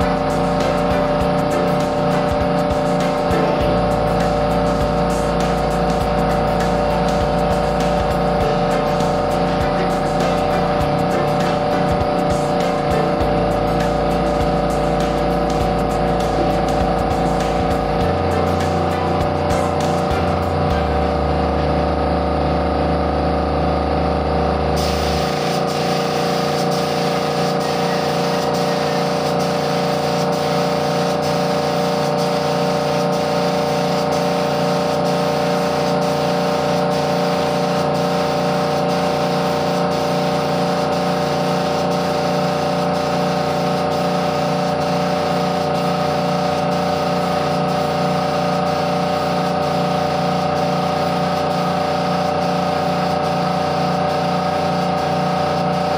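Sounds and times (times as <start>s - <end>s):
spray gun hissing: 0.0s - 23.0s, 24.6s - 55.9s
air compressor humming: 0.0s - 55.9s.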